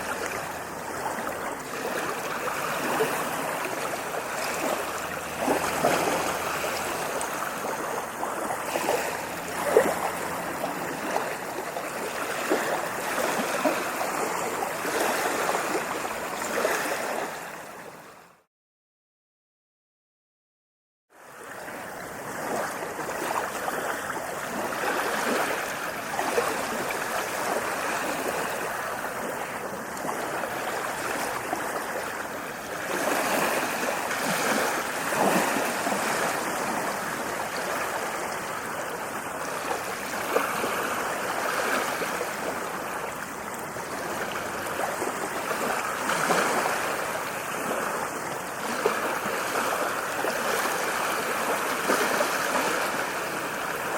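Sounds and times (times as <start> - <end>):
ocean waves washing on shore: 0.0 - 18.5, 21.2 - 53.9.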